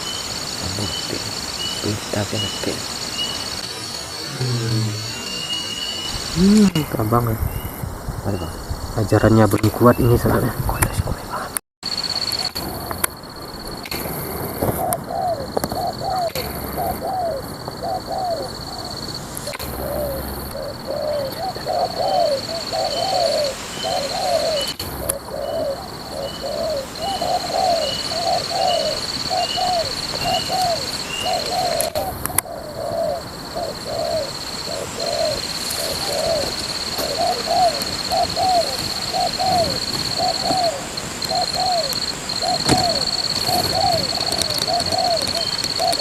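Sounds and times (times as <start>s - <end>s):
doves cooing: 0.0s - 46.0s.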